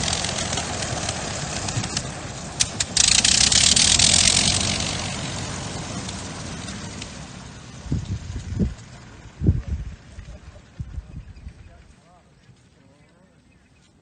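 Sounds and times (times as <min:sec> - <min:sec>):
rushing noise: 0:00.0 - 0:11.4
rotary aircraft engine running: 0:00.0 - 0:12.7.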